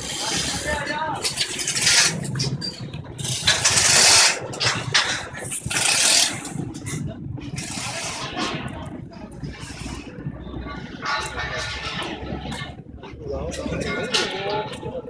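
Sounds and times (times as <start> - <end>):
vehicles passing: 0.0 - 15.0.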